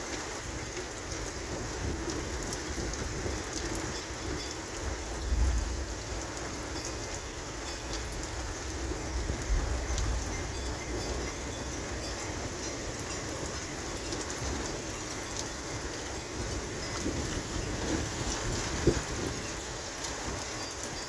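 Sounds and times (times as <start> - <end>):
raindrops ticking: 0.0 - 21.0
thunderstorm rain falling: 0.0 - 21.0.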